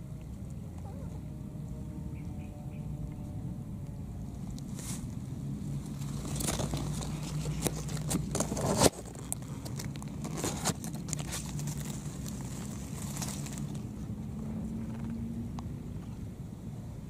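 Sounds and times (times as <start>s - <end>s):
steady low hum: 0.0s - 17.0s
grass rustling against microphone: 3.1s - 17.0s.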